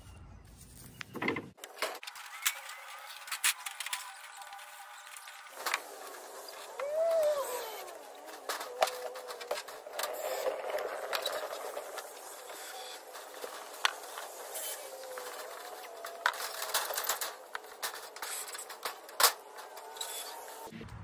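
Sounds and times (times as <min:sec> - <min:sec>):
clinks of metal parts and screws: 0:01.7 - 0:06.7, 0:07.8 - 0:20.6.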